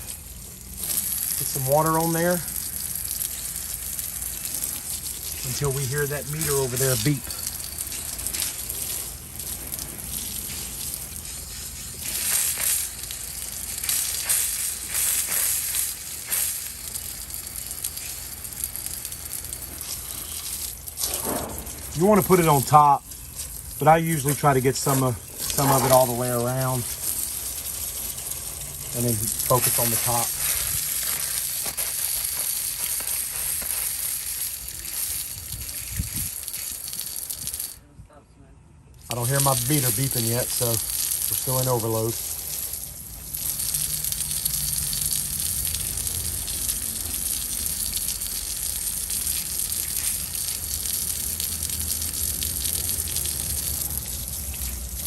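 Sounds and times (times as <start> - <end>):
hose water spraying on metal: 0.0 - 37.8, 39.0 - 55.0.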